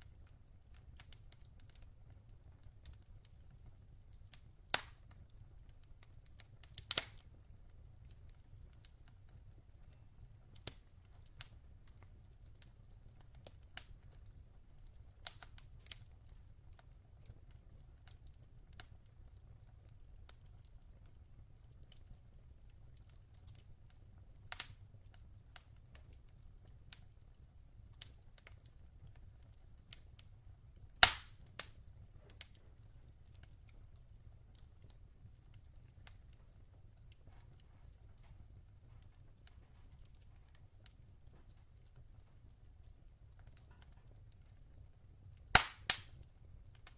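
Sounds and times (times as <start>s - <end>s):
log fire crackling: 0.0s - 46.9s.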